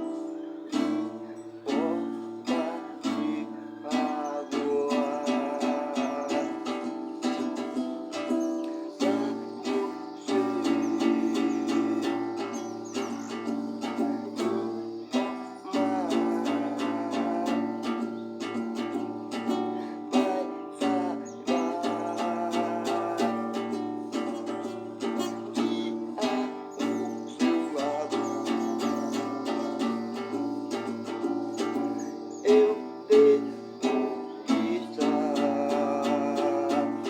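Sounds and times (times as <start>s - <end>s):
acoustic guitar strumming chords: 0.0s - 37.0s.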